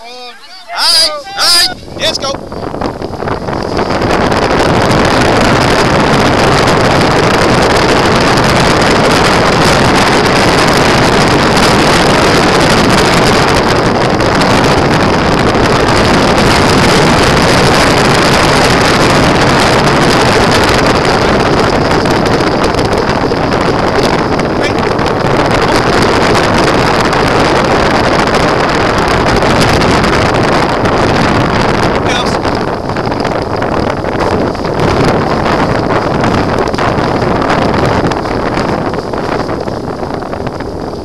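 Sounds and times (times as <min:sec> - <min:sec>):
wheels rolling on tarmac: 0:00.0 - 0:41.0
wind buffeting microphone: 0:00.0 - 0:41.0.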